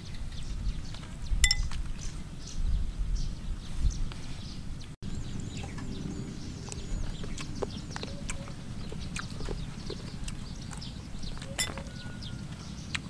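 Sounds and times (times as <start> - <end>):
birds chirping: 0.0 - 13.0
steady low rumble: 0.4 - 12.6.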